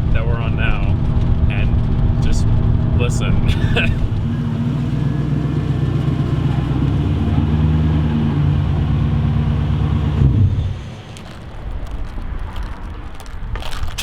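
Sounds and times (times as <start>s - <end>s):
truck engine running: 0.0s - 12.2s.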